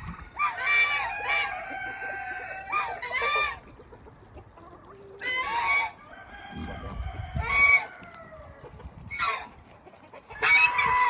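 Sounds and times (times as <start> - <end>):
roosters crowing: 0.0 - 3.7, 5.2 - 9.6, 10.2 - 11.0.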